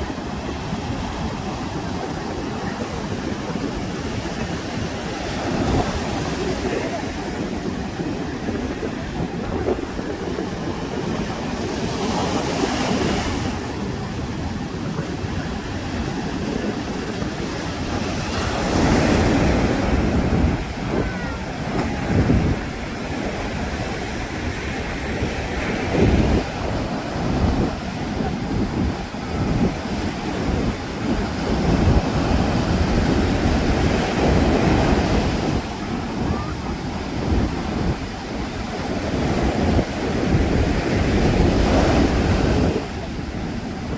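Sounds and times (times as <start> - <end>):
waves breaking on a beach: 0.0 - 43.9
wind buffeting microphone: 0.0 - 43.9.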